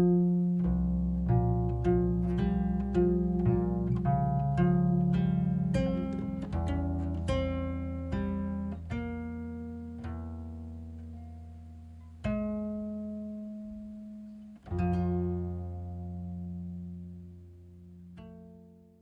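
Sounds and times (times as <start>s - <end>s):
sustained low bass: 0.0s - 18.3s
plucked string notes: 0.0s - 19.0s.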